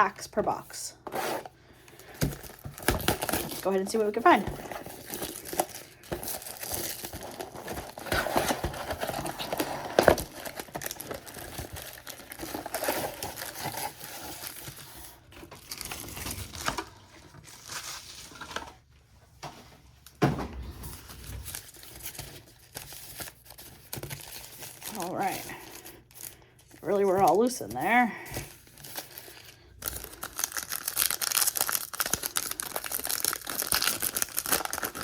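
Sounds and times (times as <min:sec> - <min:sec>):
plastic and foil wrapping crinkling: 0:01.8 - 0:18.9, 0:20.8 - 0:35.0.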